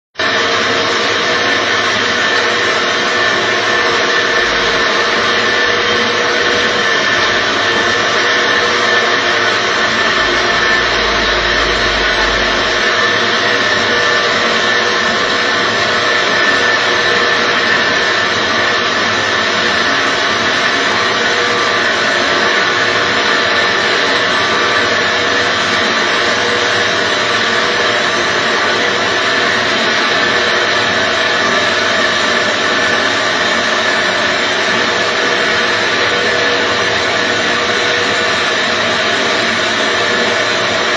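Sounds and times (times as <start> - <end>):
machine motor drone with whine: 0.2 - 40.9.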